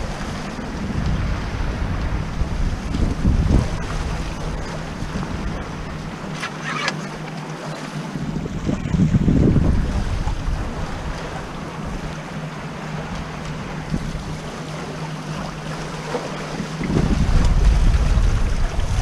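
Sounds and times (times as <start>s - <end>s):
wind buffeting microphone: 0.0s - 6.8s, 8.0s - 19.0s
water rushing past hull: 0.0s - 19.0s.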